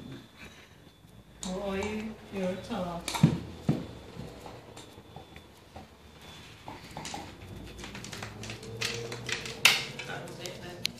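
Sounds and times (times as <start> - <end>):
dogs moving about: 1.5 - 10.9.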